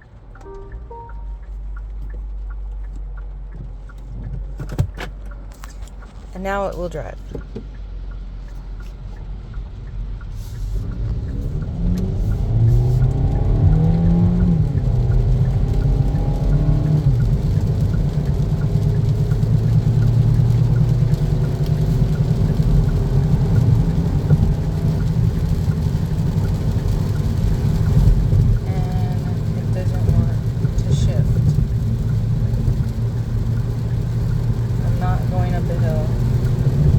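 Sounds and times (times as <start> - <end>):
car engine accelerating: 0.0 - 36.9
road noise: 0.0 - 36.9.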